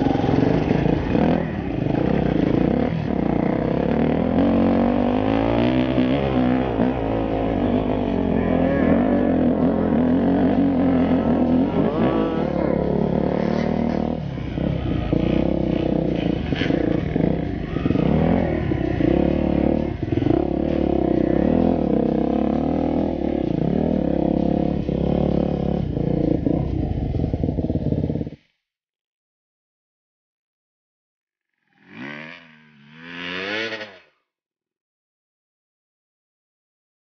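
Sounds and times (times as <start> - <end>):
motorcycle engine revving: 0.0 - 28.5, 31.7 - 34.2.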